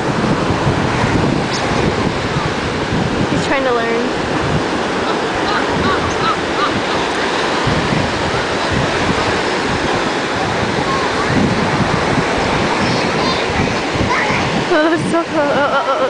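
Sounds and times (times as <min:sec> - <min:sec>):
ocean surf on beach: 0:00.0 - 0:16.0
wind buffeting microphone: 0:00.0 - 0:16.0.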